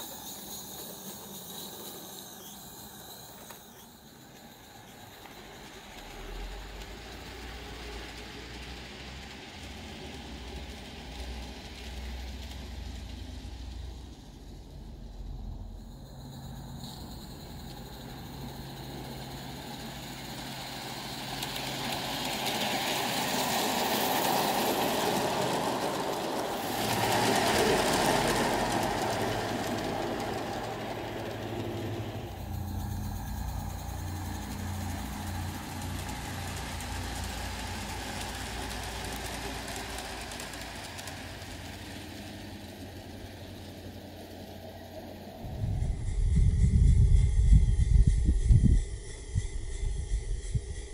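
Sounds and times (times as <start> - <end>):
model train rumbling on track: 0.0 - 50.9.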